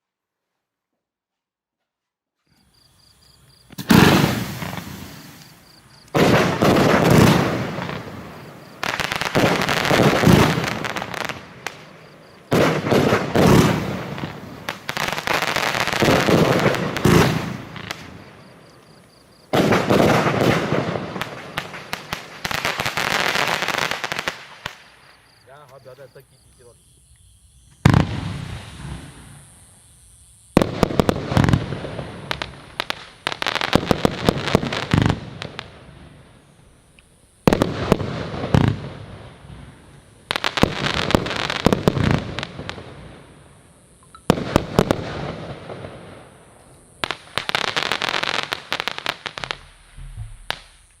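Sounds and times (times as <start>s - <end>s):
firework crackling: 3.4s - 26.1s, 27.7s - 36.4s, 37.4s - 43.6s, 44.2s - 51.0s
firework bangs: 3.5s - 26.2s, 27.7s - 29.8s, 30.5s - 36.3s, 37.4s - 43.4s, 44.2s - 51.0s.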